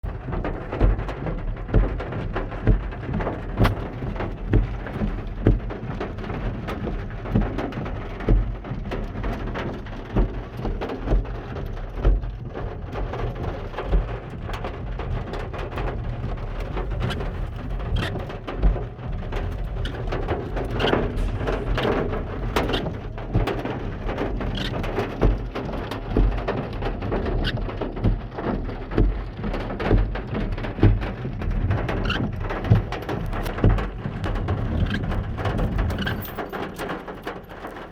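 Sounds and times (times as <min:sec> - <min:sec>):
rain falling: 0:00.1 - 0:37.9.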